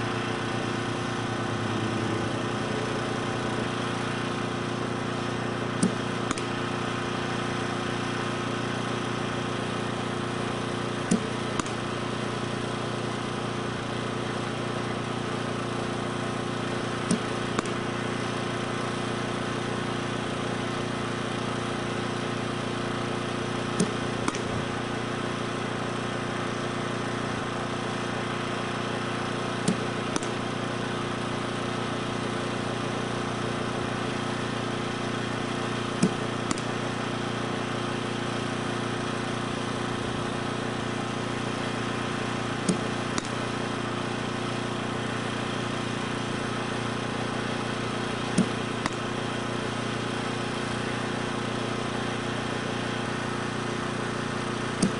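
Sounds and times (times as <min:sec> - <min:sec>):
steady motor-like hum: 0:00.0 - 0:54.9.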